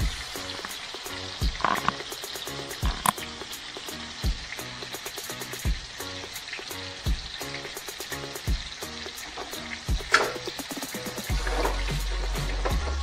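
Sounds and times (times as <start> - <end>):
background music with deep beat: 0.0 - 13.0
fish sizzling in a skillet: 0.0 - 13.0.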